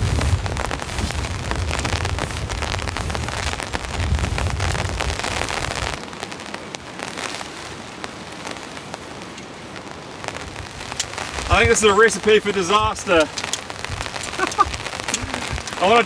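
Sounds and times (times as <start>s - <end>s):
heavy rain pattering: 0.0s - 16.0s
wind rumble on microphone: 0.0s - 16.0s.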